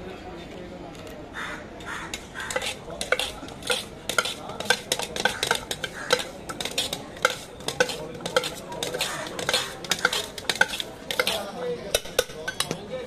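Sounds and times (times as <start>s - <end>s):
metal spoon stirring in steel tumbler: 2.2s - 13.0s.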